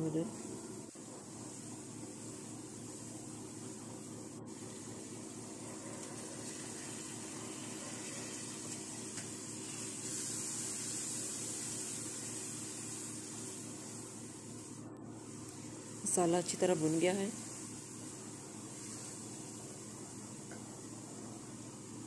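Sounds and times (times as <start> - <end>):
masala sizzling in oil: 0.0 - 22.0.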